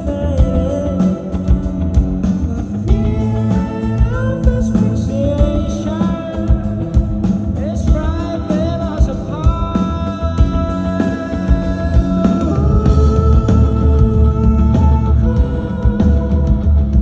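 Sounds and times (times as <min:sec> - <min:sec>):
bass guitar: 0:00.0 - 0:17.0
electric guitar: 0:00.0 - 0:17.0
person singing: 0:00.0 - 0:17.0.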